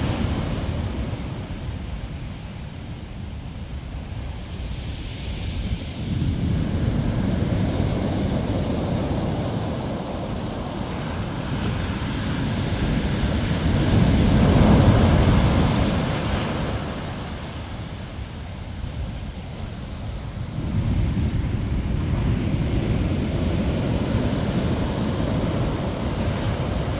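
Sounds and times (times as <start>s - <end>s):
ocean surf breaking on beach: 0.0s - 26.9s.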